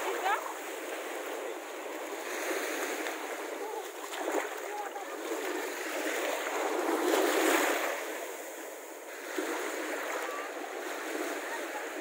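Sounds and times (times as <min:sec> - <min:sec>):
small waves washing onto sand: 0:00.0 - 0:12.0.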